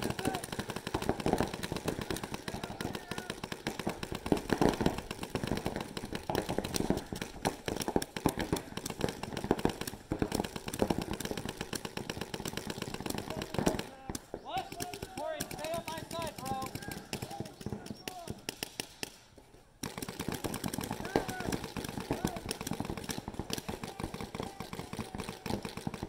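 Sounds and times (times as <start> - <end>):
paintball markers firing: 0.0 - 26.0.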